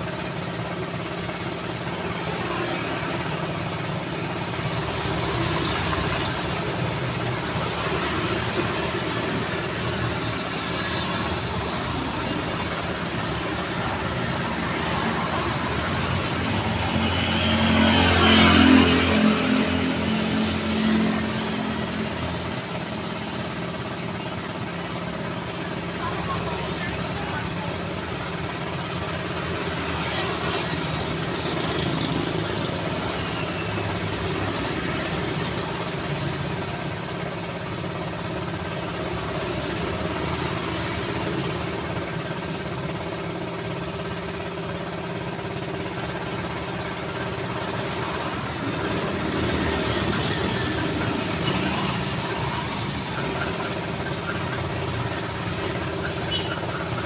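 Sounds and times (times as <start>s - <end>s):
passing traffic: 0.0s - 57.0s
vehicle engines running and idling: 0.0s - 57.0s.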